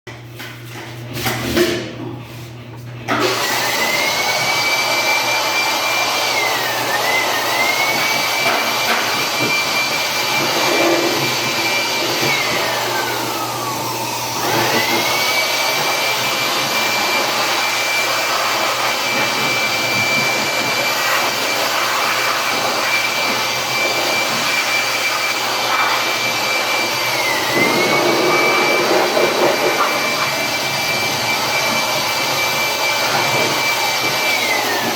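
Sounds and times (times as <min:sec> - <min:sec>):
electric dryer motor and fan: 0:00.1 - 0:34.9.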